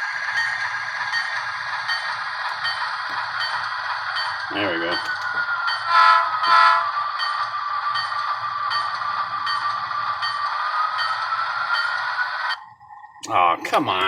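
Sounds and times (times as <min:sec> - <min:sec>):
tinny model train engine sound: 0:00.0 - 0:12.6.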